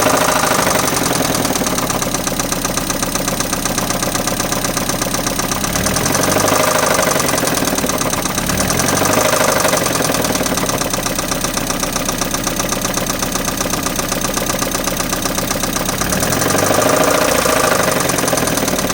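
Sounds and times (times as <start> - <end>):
car engine running and revving: 0.0 - 18.9.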